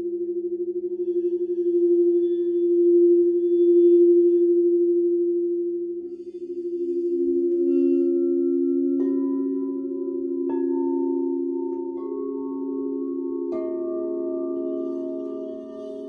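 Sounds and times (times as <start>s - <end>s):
crystal singing bowls ringing: 0.0s - 16.0s.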